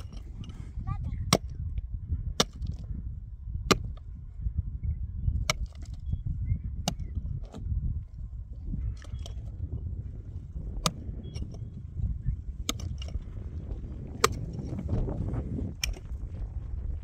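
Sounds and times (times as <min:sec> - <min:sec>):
digging tool striking rocky earth: 0:00.0 - 0:04.2, 0:05.3 - 0:17.0
low rumble: 0:00.0 - 0:17.0.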